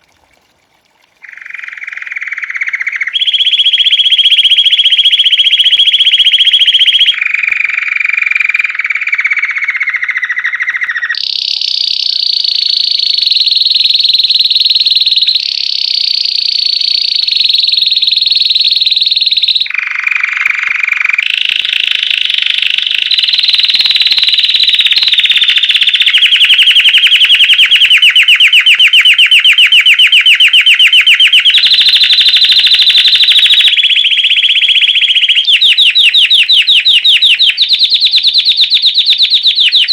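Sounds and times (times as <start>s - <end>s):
canary singing trills: 1.2s - 39.9s.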